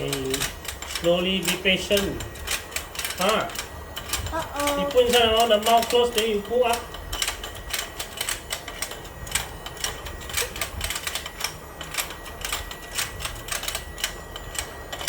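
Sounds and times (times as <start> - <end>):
toy plastic gears clicking: 0.0 - 15.0.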